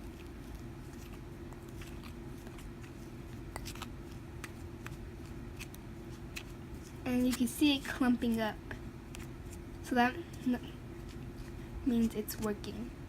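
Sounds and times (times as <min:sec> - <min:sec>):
utensil stirring dough in bowl: 0:00.0 - 0:12.9
steady low hum: 0:00.0 - 0:13.0.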